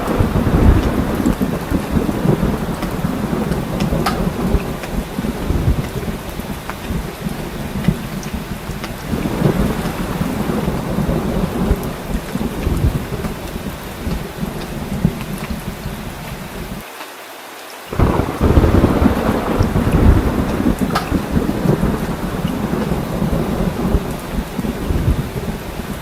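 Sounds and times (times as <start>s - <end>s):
low rumble of thunder: 0.0s - 16.8s, 17.9s - 26.0s
heavy rain pouring: 0.0s - 26.0s.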